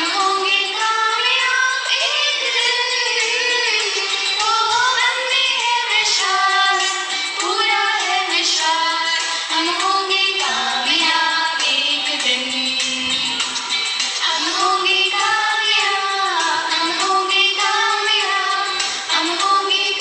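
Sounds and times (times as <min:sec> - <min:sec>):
woman singing prayer: 0:00.0 - 0:13.5, 0:14.2 - 0:20.0.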